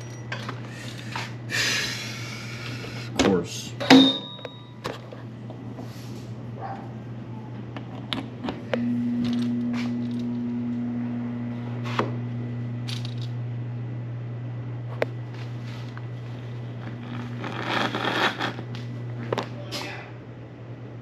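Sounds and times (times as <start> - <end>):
appliance electrical hum: 0.0 - 21.0
low background hum: 0.0 - 21.0.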